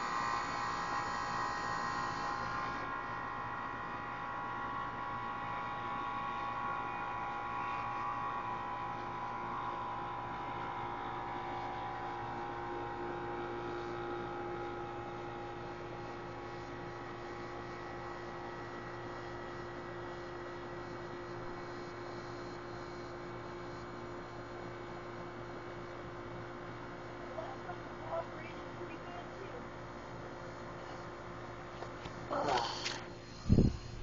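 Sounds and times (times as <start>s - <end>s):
air conditioner compressor and fan hum: 0.0s - 34.0s.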